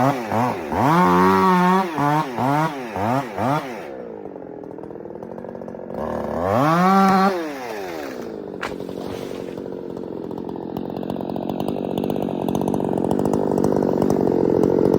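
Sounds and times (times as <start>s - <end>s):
two-stroke chainsaw running: 0.0s - 14.9s.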